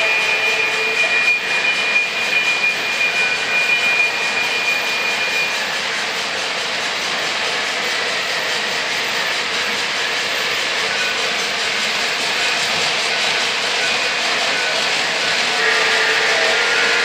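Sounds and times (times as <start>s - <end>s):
model train wheels rumbling on rails: 0.0s - 17.0s.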